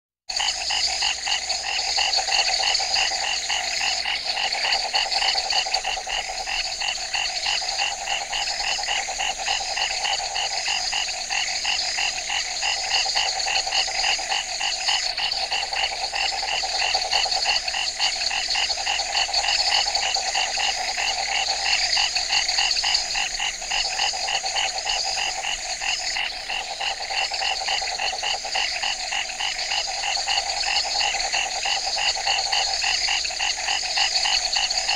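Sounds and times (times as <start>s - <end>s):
frogs calling: 0.3s - 34.9s.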